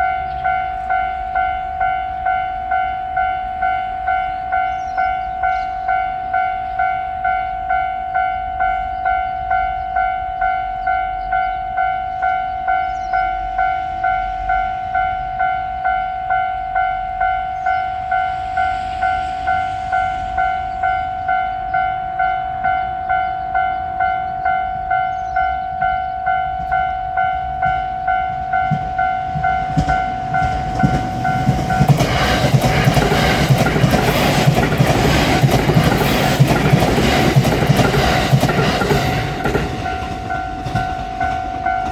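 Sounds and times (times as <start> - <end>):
train rumble and wheel clatter: 0.0 - 41.9
level crossing alarm dinging: 6.0 - 41.9.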